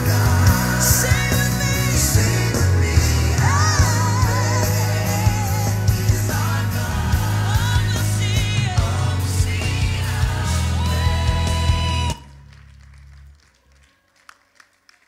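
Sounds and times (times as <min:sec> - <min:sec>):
bass line and drum beat: 0:00.0 - 0:12.3
person singing: 0:00.0 - 0:12.3.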